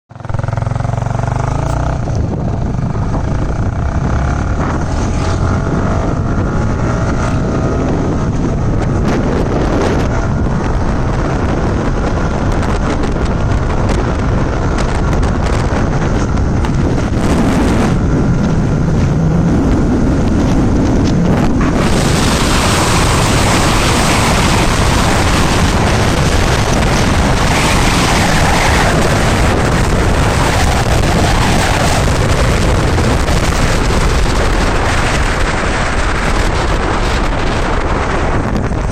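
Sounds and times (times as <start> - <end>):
vehicle engine running: 0.1 - 38.9
wind rush: 0.1 - 38.9.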